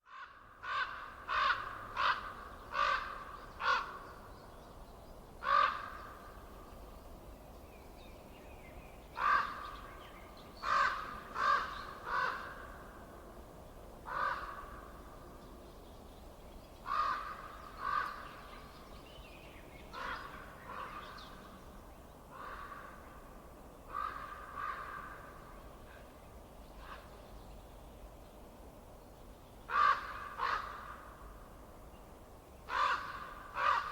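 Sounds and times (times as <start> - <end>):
faint background hiss: 0.3 - 33.9.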